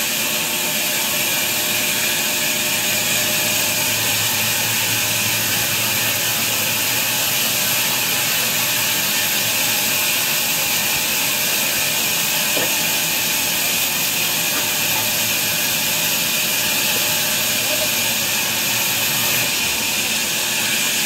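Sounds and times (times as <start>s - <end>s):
band saw cutting log: 0.0s - 21.0s.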